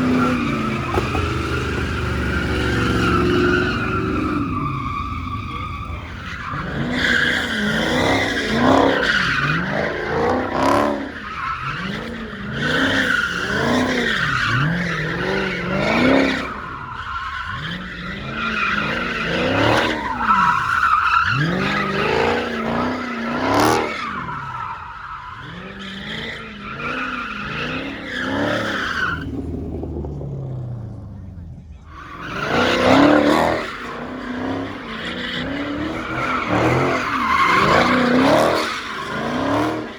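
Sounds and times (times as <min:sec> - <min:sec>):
tyres squealing: 0:00.0 - 0:29.5, 0:31.9 - 0:39.9
car engine revving: 0:00.0 - 0:39.9.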